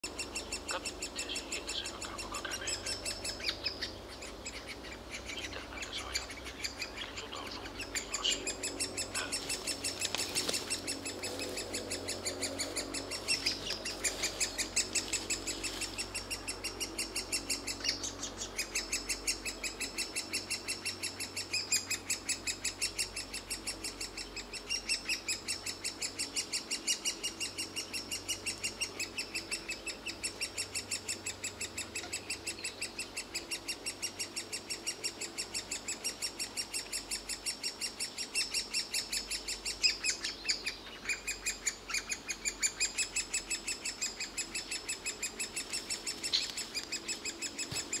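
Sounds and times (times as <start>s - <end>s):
nestlings begging calls: 0.0s - 48.0s.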